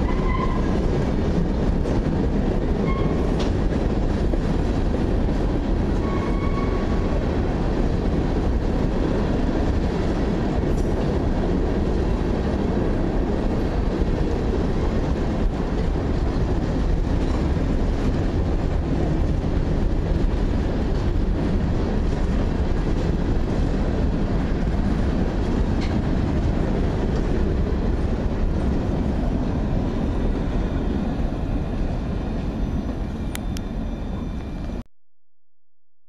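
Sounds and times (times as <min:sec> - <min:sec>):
train wheels rumbling on rails: 0:00.0 - 0:34.8.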